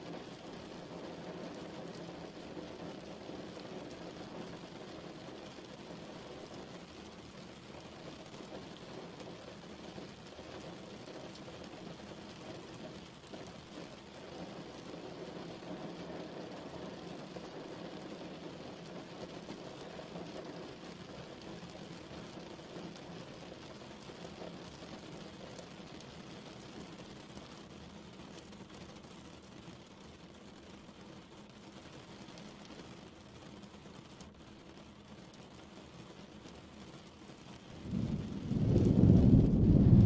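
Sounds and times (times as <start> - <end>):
raindrop ticks: 0.0 - 40.0
steady rain: 0.0 - 40.0.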